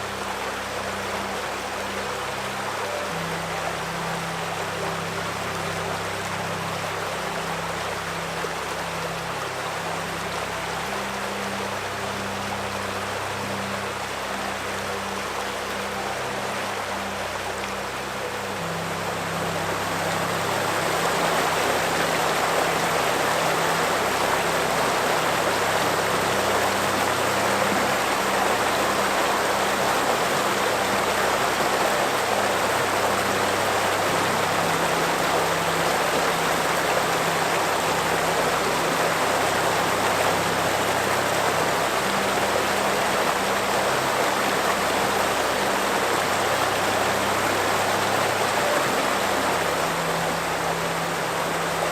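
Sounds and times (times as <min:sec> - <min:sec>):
river water rushing: 0:00.0 - 0:51.9
soft relaxing music: 0:00.0 - 0:51.9.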